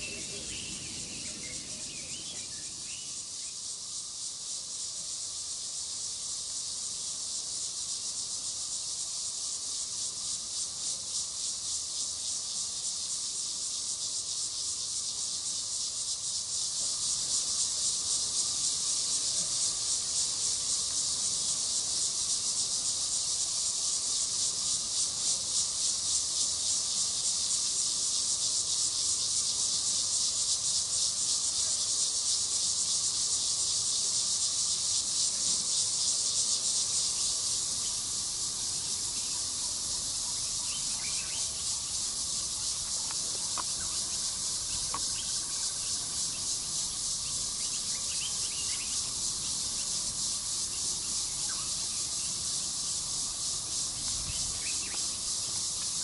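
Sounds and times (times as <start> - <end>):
insects buzzing in chorus: 0.0 - 56.0.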